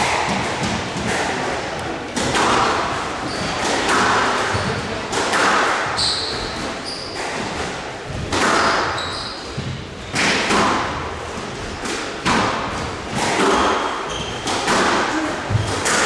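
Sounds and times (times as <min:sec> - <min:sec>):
court shoes squeaking: 0:00.0 - 0:16.0
squash ball hits echoing: 0:00.0 - 0:16.0.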